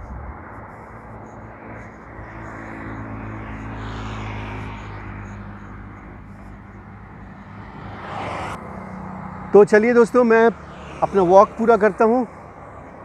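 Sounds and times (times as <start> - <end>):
passing vehicle engine hum: 0.0 - 13.0.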